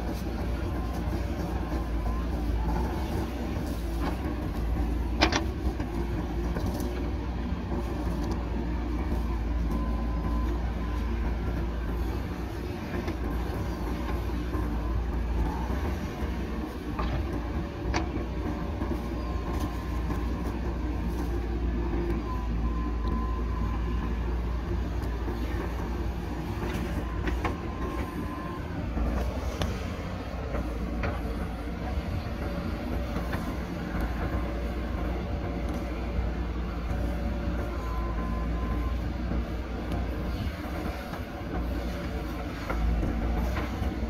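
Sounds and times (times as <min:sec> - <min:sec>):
diesel engine running under load: 0:00.0 - 0:44.0
thin whine: 0:00.0 - 0:44.0.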